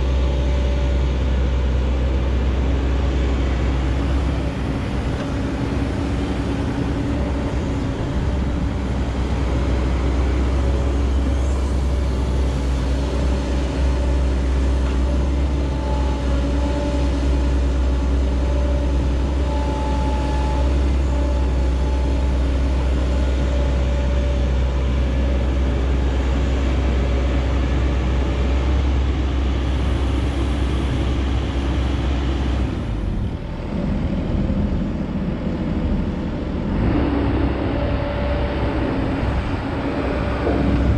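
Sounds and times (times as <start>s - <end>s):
heavy diesel machinery rumbling: 0.0s - 40.9s.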